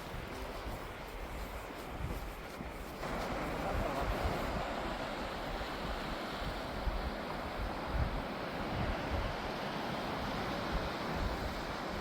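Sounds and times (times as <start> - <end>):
sea surf washing on shore: 0.0 - 12.0
wind buffeting microphone: 0.0 - 12.0.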